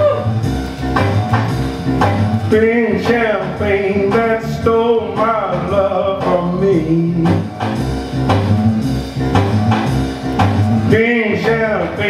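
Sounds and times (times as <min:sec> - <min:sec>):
jazzy bluesy music: 0:00.0 - 0:12.0
sliding melody line: 0:00.0 - 0:12.0
walking bass line: 0:00.0 - 0:12.0.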